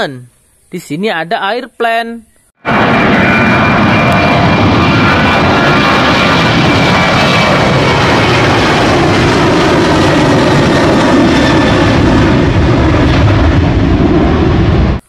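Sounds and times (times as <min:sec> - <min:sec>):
jet engines roaring: 0:02.6 - 0:15.0.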